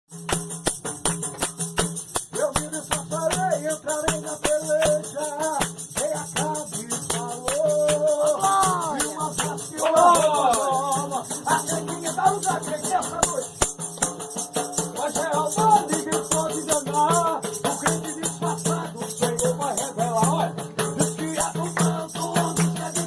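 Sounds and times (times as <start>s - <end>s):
upbeat worship music: 0.1s - 23.0s.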